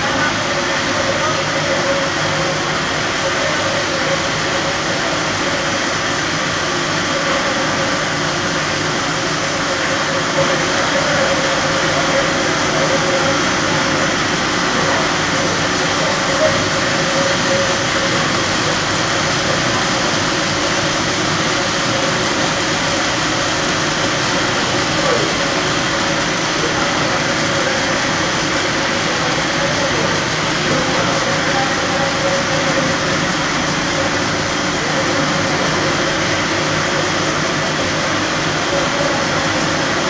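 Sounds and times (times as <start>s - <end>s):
production line machine hum: 0.0s - 40.0s.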